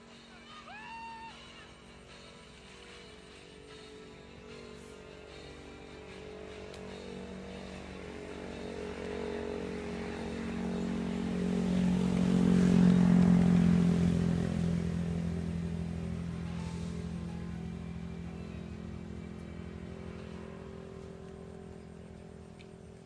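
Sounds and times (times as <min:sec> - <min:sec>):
motorcycle passing by: 0:03.4 - 0:23.0.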